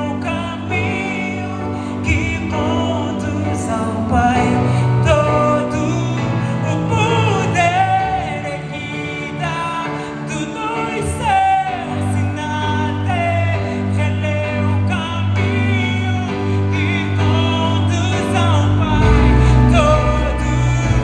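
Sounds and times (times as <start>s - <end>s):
lead vocal singing: 0.0s - 21.0s
live gospel band playing: 0.0s - 21.0s.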